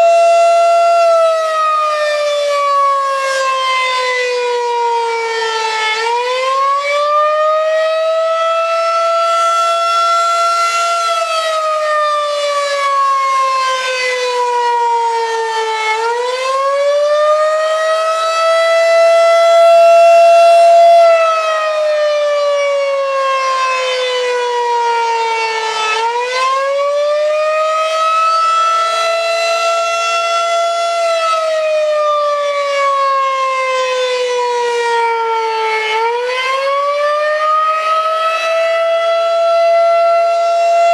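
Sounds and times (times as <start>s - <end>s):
warning siren wailing: 0.0s - 40.9s.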